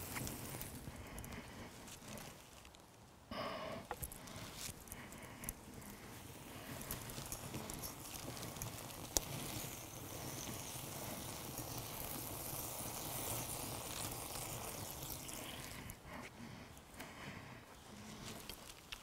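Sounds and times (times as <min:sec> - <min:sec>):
fire crackles: 0:00.0 - 0:19.0
wood fire hissing: 0:00.0 - 0:19.0.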